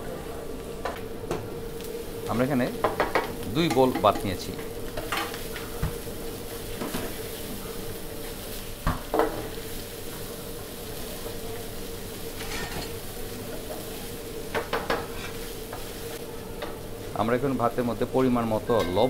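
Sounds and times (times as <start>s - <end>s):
rice sizzling in pan: 0.6s - 19.0s.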